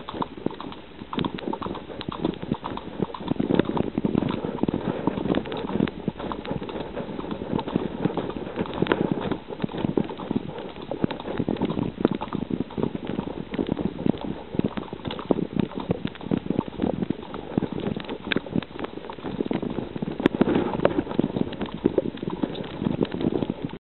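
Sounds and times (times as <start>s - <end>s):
horse hoofbeats on dirt: 0.0s - 23.8s.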